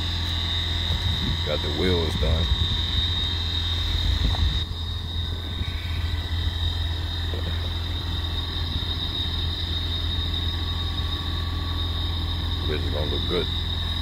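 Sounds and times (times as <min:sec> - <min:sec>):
motor humming with high whine: 0:00.0 - 0:14.0.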